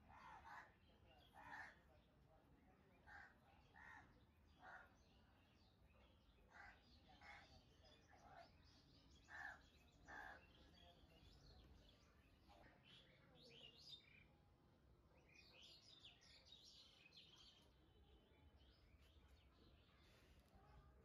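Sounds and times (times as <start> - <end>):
small birds chirping: 0.0 - 14.5, 15.1 - 21.0.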